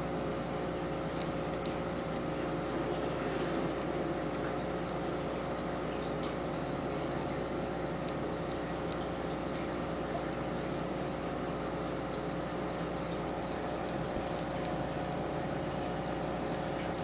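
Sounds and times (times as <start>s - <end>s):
aquarium filter humming: 0.0s - 17.0s
water trickling and bubbling: 0.0s - 17.0s.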